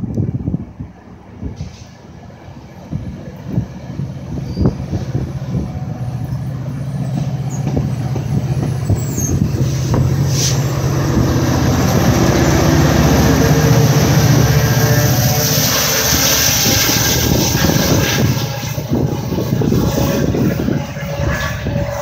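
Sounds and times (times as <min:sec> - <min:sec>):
diesel locomotive drone: 0:00.0 - 0:22.0.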